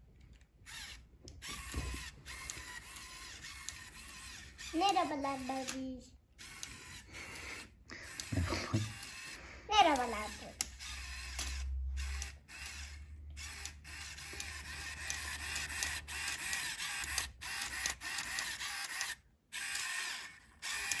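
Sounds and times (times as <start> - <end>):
robot servo motors whirring: 0.3 - 21.0.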